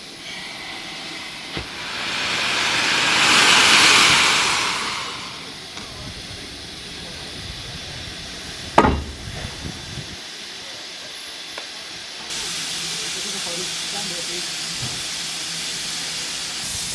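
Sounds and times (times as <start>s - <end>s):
steam locomotive hissing steam: 0.0s - 16.9s.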